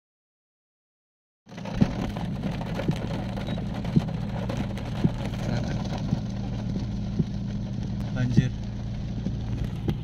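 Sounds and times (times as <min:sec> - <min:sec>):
car engine idling: 0:01.5 - 0:10.0
rain on a car: 0:01.5 - 0:10.0.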